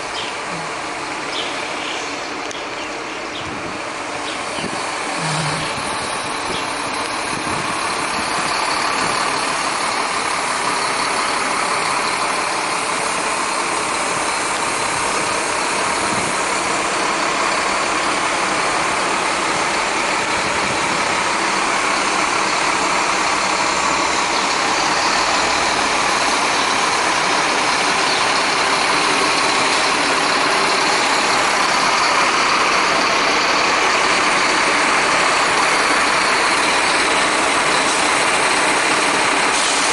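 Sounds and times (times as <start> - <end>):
bus engine idling: 0.0 - 39.9.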